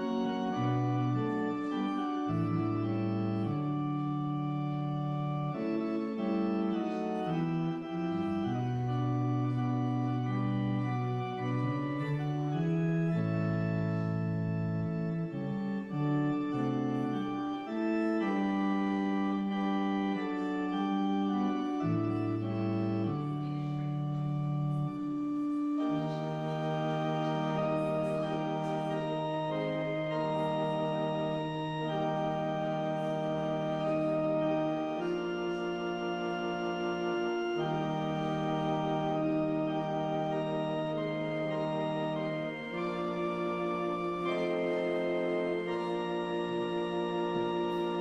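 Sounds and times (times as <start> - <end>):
organ playing held chords: 0.0 - 48.0.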